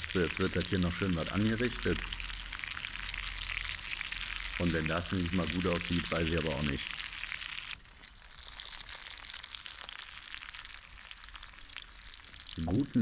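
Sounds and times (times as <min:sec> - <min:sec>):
campfire sizzling and crackling: 0:00.0 - 0:13.0.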